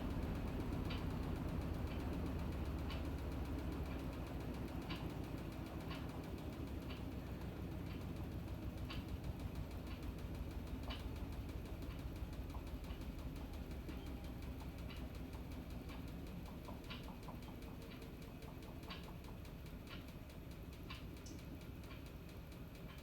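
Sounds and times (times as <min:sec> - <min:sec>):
washing machine running: 0:00.0 - 0:23.0.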